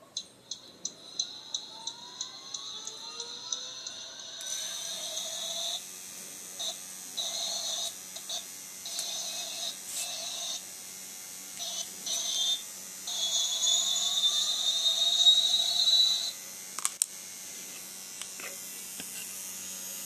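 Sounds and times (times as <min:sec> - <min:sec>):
faint steady hum: 0:00.0 - 0:20.0
small motor whining in bursts: 0:01.0 - 0:20.0.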